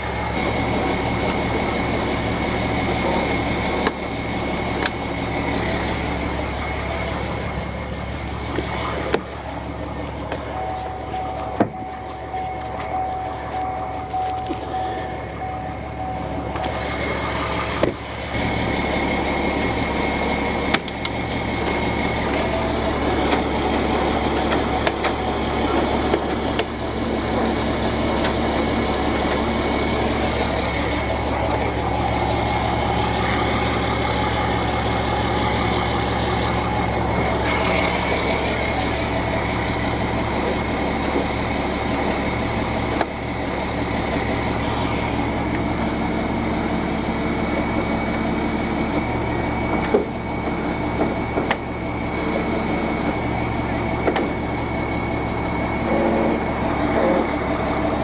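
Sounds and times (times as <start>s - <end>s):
truck engine idling: 0.0s - 58.0s
winch pulling: 0.0s - 58.0s.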